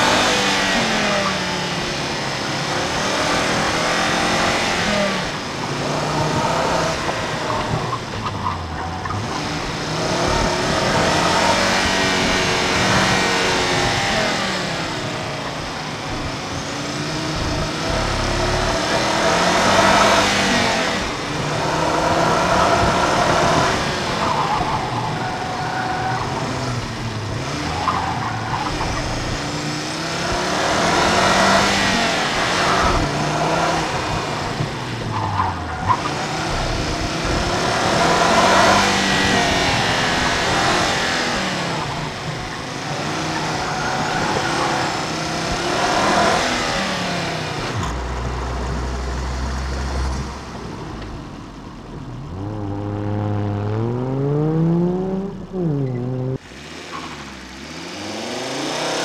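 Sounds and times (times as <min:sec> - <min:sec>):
car engine revving: 0:00.0 - 0:59.0
tire noise and squeal: 0:00.0 - 0:59.0.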